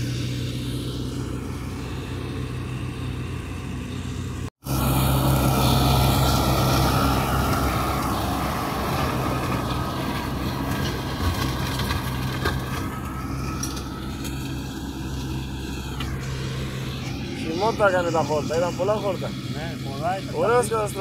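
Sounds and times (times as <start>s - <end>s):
flail mower rushing noise: 0.0s - 21.0s
tractor diesel engine hum: 0.0s - 21.0s.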